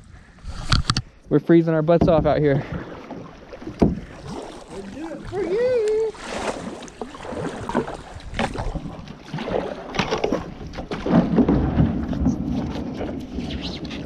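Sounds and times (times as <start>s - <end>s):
kayak paddle splashing water: 2.0s - 14.0s.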